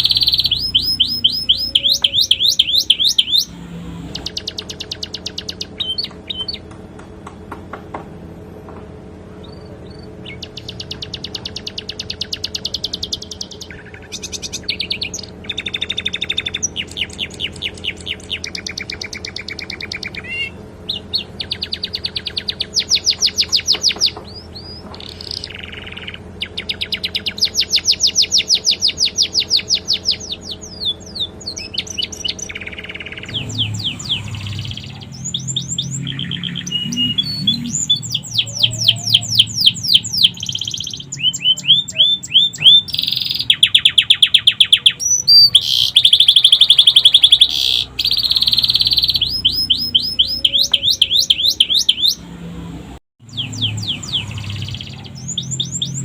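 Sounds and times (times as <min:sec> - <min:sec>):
canary singing trills: 0:00.0 - 0:06.8, 0:09.4 - 0:52.4, 0:53.2 - 0:56.0.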